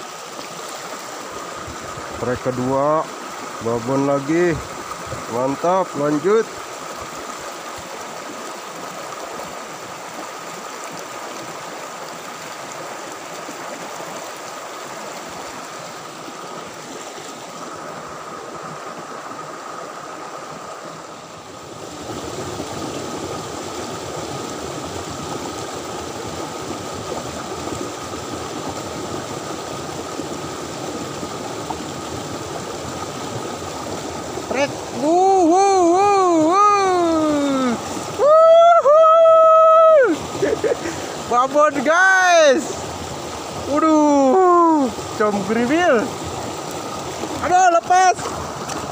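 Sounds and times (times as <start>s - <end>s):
stream water rushing over rocks: 0.0s - 48.9s.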